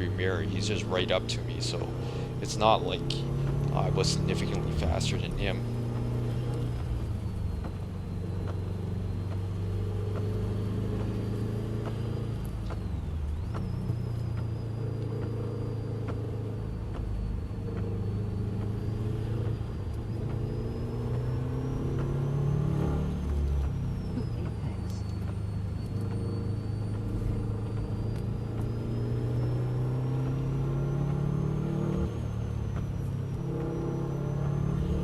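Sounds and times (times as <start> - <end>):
car engine running hard: 0.0 - 35.0.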